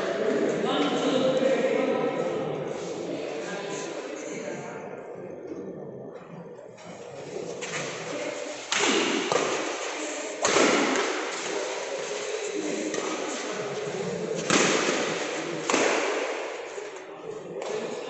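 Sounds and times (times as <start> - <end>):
spectators' voices: 0.0 - 18.0.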